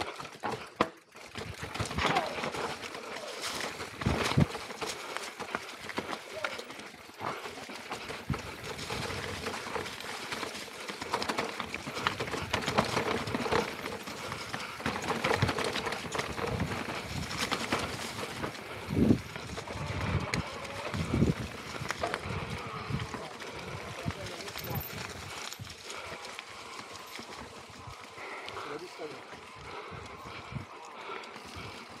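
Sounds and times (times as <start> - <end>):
chain and frame rattle: 0.0 - 19.1, 20.5 - 29.1
bike tyres crunching: 0.0 - 32.0.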